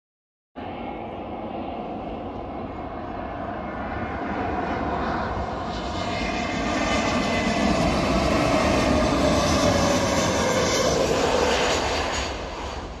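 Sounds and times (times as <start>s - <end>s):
jet airliner flying past low: 0.6s - 13.0s.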